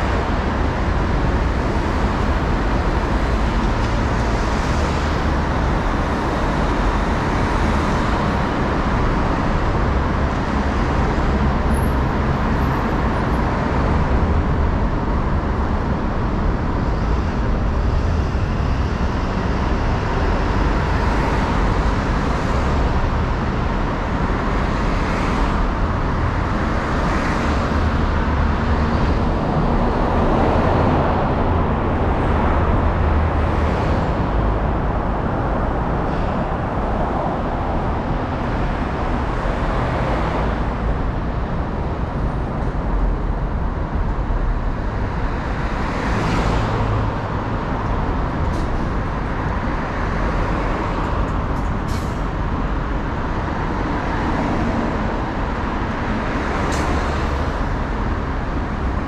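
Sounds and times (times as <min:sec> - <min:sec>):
cars passing on busy street: 0:00.0 - 0:59.0.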